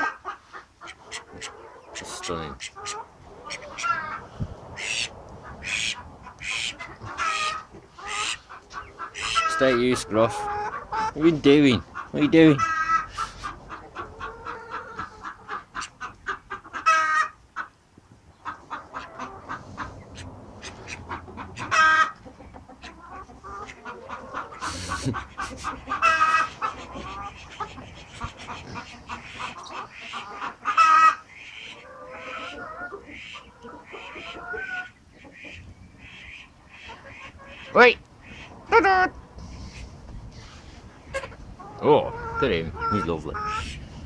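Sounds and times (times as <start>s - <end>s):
chickens clucking and calling: 0.0s - 44.0s.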